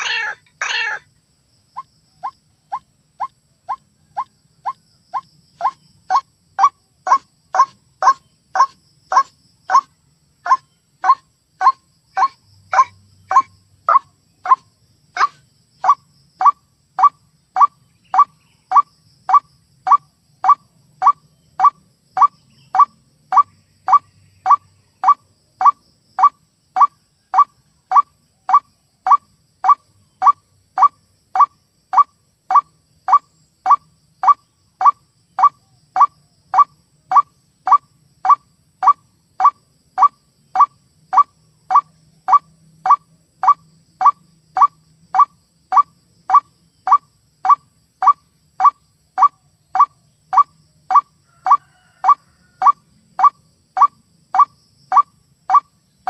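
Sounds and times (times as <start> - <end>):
harsh bird call repeated: 0.0 - 1.0, 5.6 - 14.6, 15.2 - 55.6.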